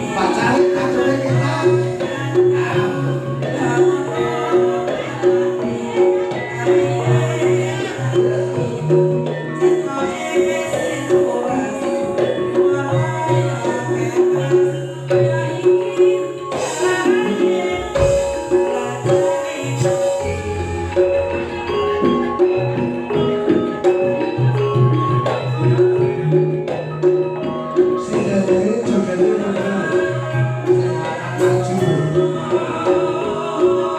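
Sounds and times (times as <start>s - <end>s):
hand-drum percussion: 0.0s - 33.9s
metallophone notes: 0.0s - 33.9s.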